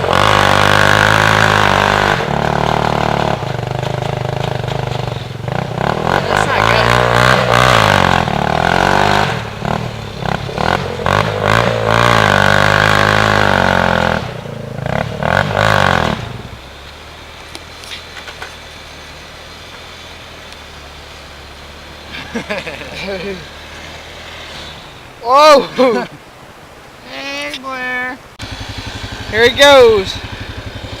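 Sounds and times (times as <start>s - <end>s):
engine revving: 0.0s - 26.1s, 28.4s - 31.0s
faint low engine hum: 0.0s - 31.0s.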